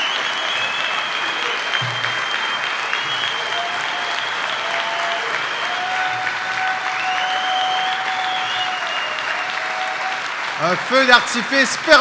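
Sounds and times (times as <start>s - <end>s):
large audience applauding: 0.0s - 12.0s.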